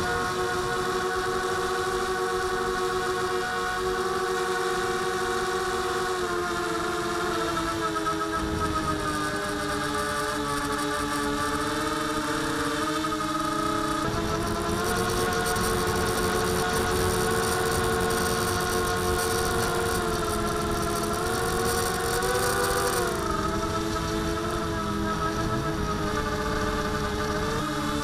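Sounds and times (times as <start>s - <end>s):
drone motor buzzing whine: 0.0s - 28.0s.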